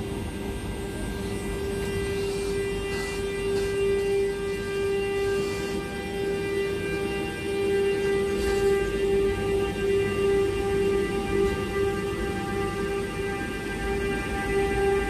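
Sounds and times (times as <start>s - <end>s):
electric locomotives whining: 0.0s - 15.0s.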